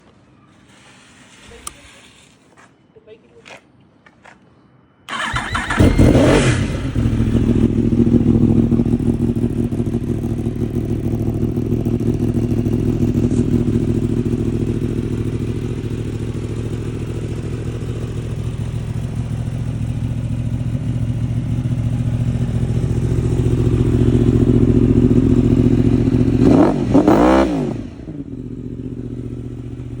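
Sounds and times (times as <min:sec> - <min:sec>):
motorcycle engine revving and idling: 0:05.1 - 0:30.0.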